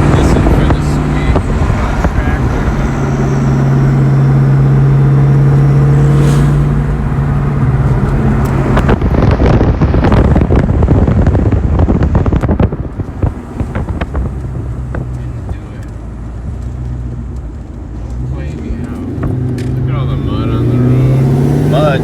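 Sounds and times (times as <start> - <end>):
car engine droning and crackling: 0.0 - 22.0.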